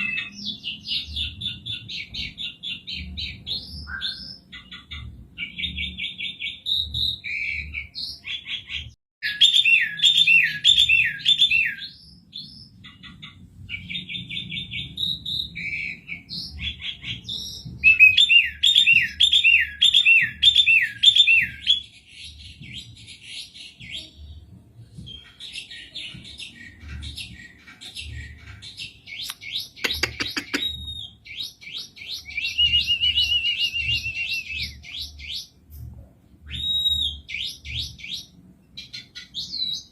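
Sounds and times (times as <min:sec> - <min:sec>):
starling singing: 0:00.0 - 0:35.6.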